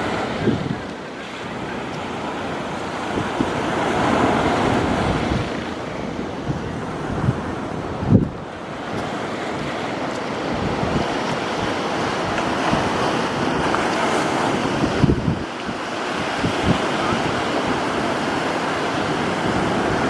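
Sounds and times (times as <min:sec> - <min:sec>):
sea surf breaking on beach: 0:00.0 - 0:20.0
wind buffeting microphone: 0:00.0 - 0:20.0.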